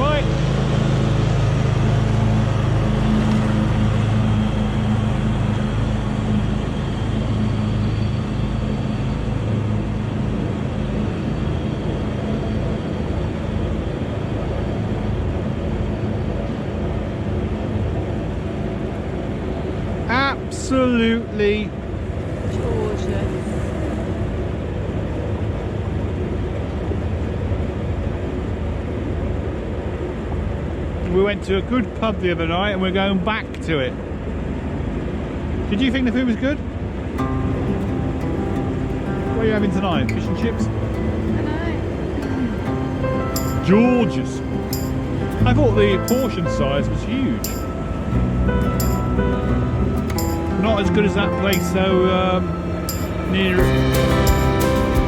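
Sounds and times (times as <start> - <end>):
engine running with low hum: 0.0 - 31.3, 36.8 - 55.0.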